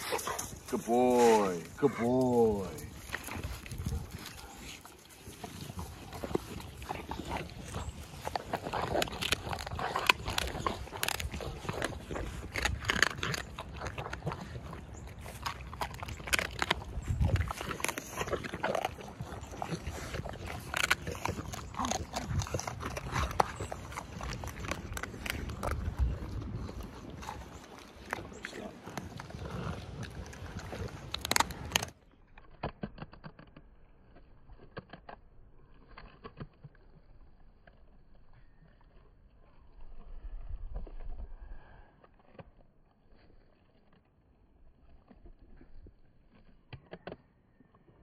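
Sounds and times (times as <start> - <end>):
dogs chewing food: 0.0 - 48.0.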